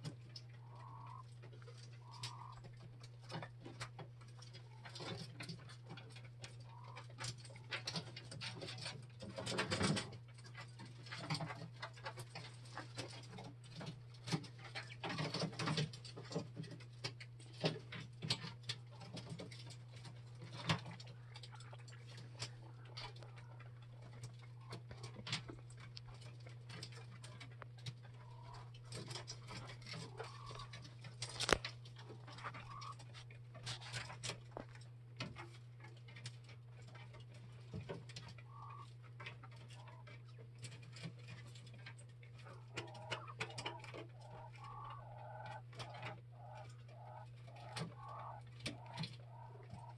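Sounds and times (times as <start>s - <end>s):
quail pecking on wire mesh: 0.0s - 49.9s
steady low hum: 0.0s - 49.9s.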